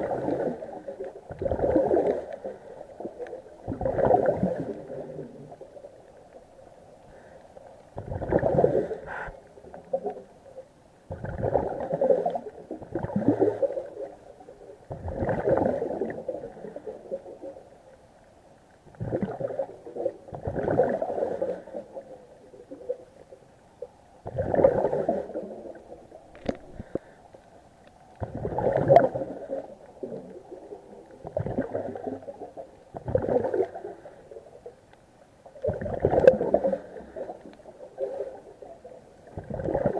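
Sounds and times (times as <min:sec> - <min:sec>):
exhaled bubbles underwater: 0:00.0 - 0:07.3, 0:07.9 - 0:17.9, 0:18.8 - 0:27.1, 0:28.1 - 0:34.8, 0:35.4 - 0:39.9.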